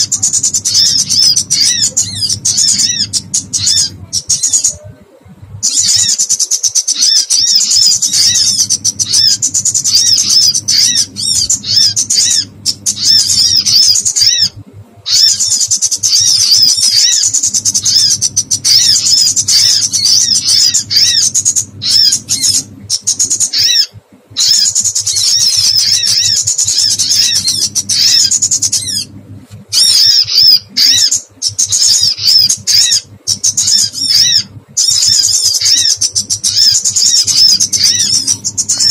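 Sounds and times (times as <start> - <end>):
bird distress chirps: 0.0 - 38.9
low steady hum: 0.0 - 38.9.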